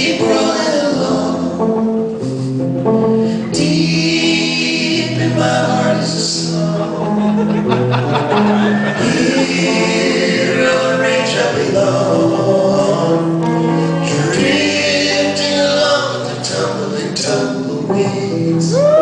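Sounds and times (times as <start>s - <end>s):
men singing in harmony: 0.0s - 1.9s, 3.3s - 19.0s
live band playing: 0.0s - 19.0s.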